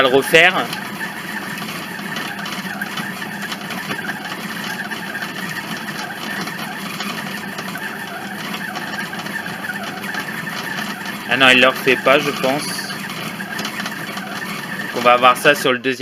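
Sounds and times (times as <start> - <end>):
food processor motor running: 0.0 - 15.8.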